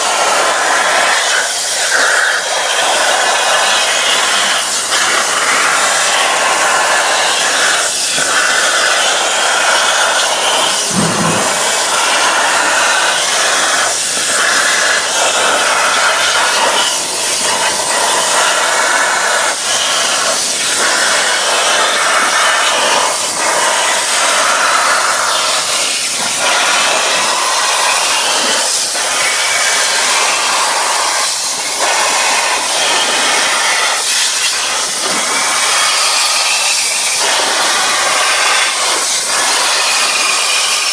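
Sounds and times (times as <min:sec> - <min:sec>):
plasma torch hissing: 0:00.0 - 0:40.9.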